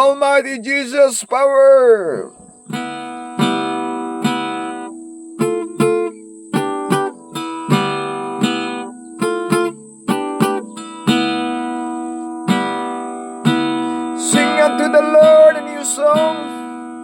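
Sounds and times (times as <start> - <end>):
acoustic guitar strumming chords: 2.3 - 17.0.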